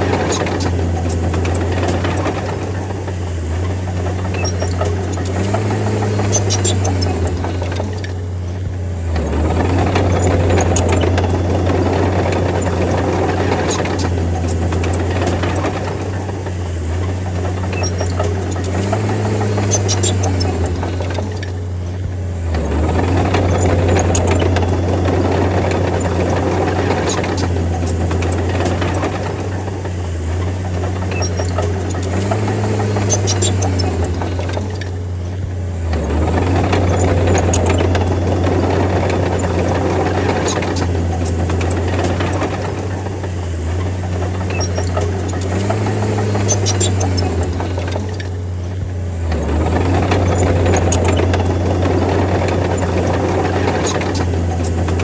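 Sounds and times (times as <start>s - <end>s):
bulldozer diesel engine running: 0.0s - 55.0s
steady rattling: 0.0s - 55.0s.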